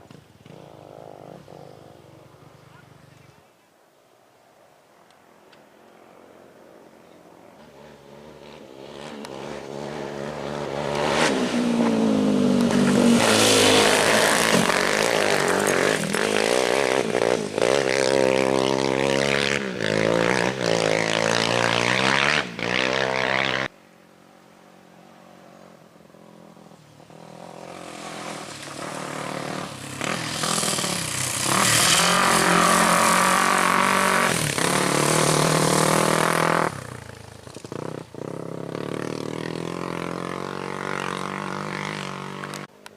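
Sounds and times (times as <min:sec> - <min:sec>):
off-road vehicle engines revving: 0:00.0 - 0:03.3, 0:07.6 - 0:23.8, 0:26.2 - 0:42.7.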